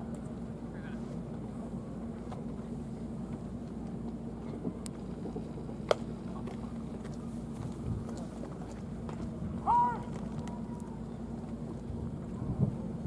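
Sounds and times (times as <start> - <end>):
ballpark low hum: 0.0 - 13.0.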